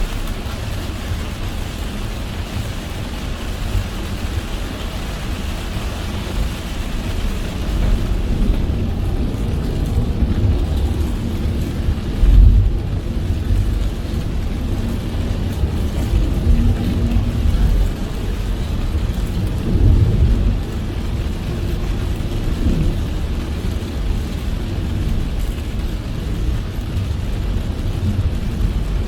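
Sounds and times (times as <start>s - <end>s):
rain hissing on car: 0.0s - 29.0s
tyres rumbling on road: 0.0s - 29.0s.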